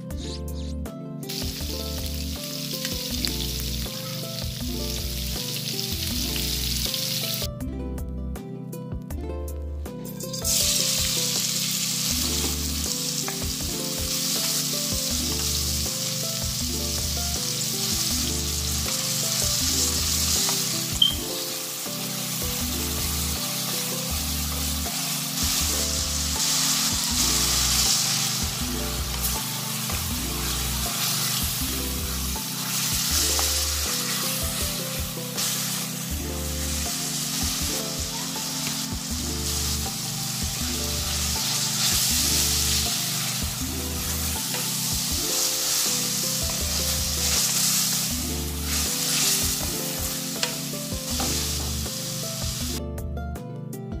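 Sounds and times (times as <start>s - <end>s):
background music with steady beat: 0.0s - 54.0s
onions frying in hot oil: 1.3s - 7.5s, 10.3s - 52.8s.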